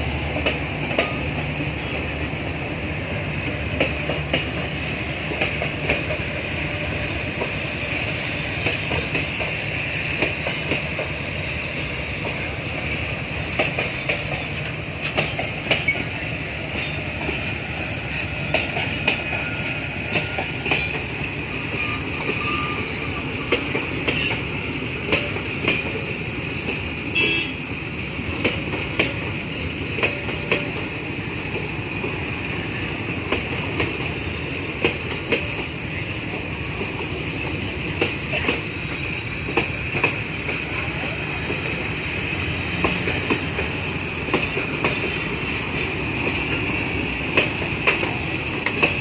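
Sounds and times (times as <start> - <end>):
train coaches rumbling past: 0.0 - 49.0
wheels clacking over rail joints: 0.0 - 49.0.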